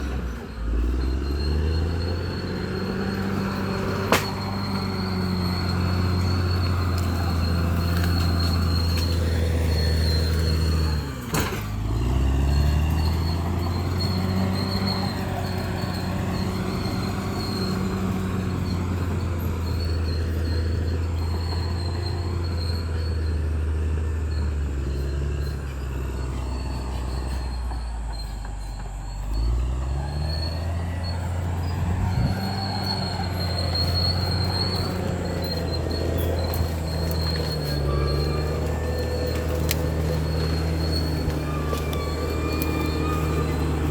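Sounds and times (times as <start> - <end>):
bulldozer diesel engine: 0.0 - 43.9
thin high squeal: 0.0 - 43.9.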